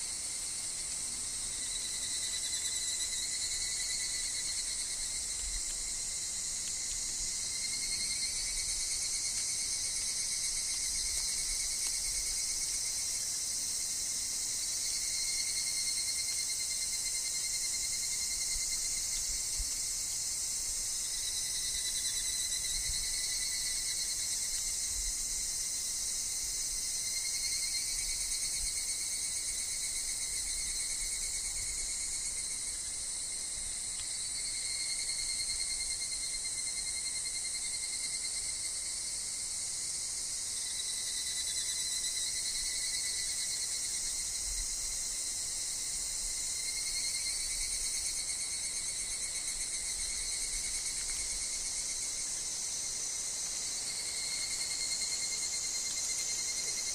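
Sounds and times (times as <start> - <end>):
cicada chorus: 0.0 - 56.9
evening cicadas calling: 0.0 - 56.9.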